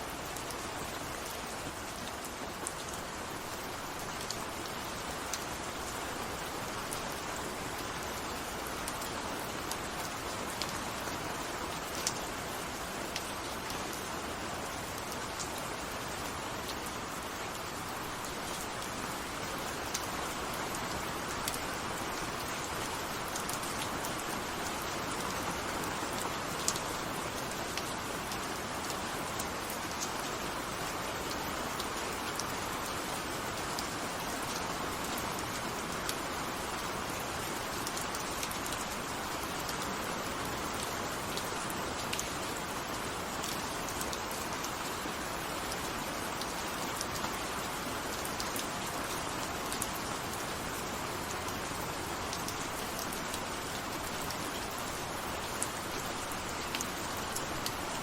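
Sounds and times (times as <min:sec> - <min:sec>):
steady rain hiss: 0:00.0 - 0:58.0
raindrops ticking on a surface: 0:00.1 - 0:58.0.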